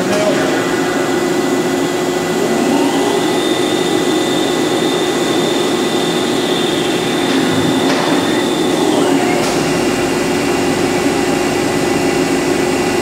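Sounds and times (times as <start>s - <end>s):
high machine whine: 0.0s - 13.0s
lathe machine whir: 0.0s - 13.0s.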